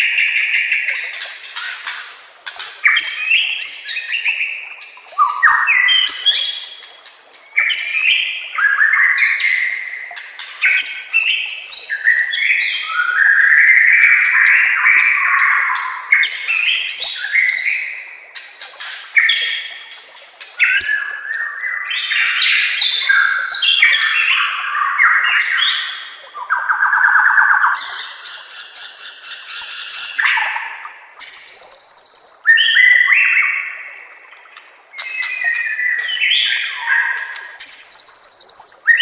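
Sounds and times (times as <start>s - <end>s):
bird singing varied song: 0.0s - 39.0s.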